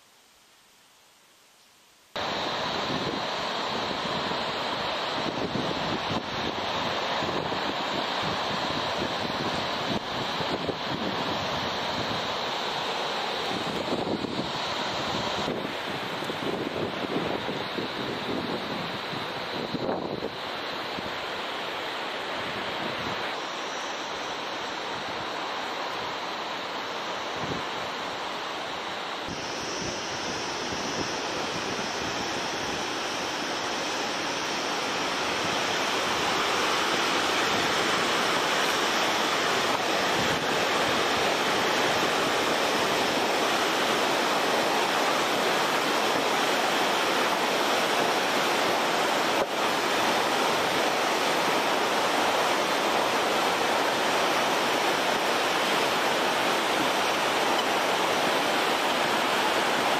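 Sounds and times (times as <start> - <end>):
rushing river water: 2.1 - 59.9.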